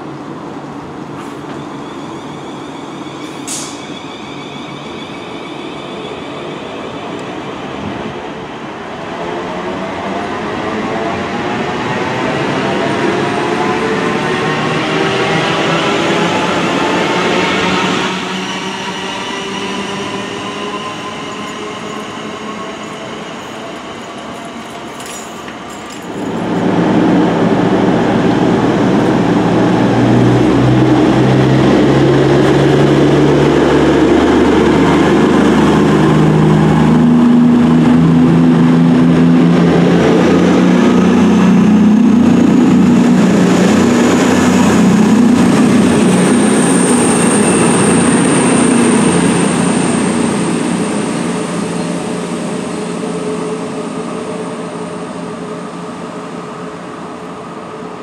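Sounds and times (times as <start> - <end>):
diesel train engines accelerating: 0.0 - 58.0.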